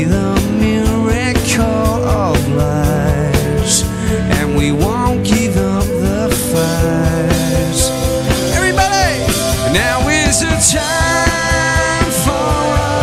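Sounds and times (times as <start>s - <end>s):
electric guitars bending pitch: 0.0s - 13.0s
steady drum beat: 0.0s - 13.0s.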